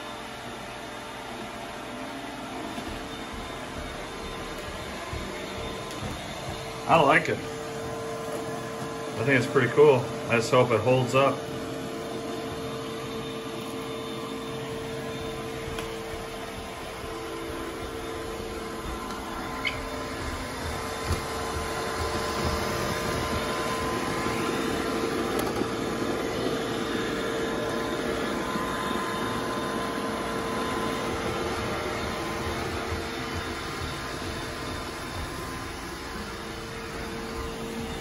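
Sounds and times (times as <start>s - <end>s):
robot vacuum humming and whining: 0.0s - 38.0s.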